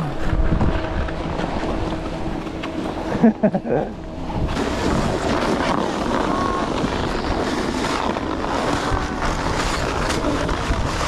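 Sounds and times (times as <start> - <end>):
wind buffeting microphone: 0.0 - 3.2, 3.9 - 11.0.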